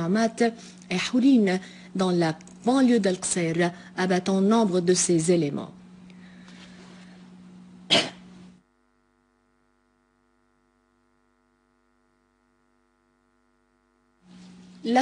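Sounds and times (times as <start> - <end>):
electrical mains hum: 0.0 - 15.0
faint multi-tone hum: 0.0 - 15.0.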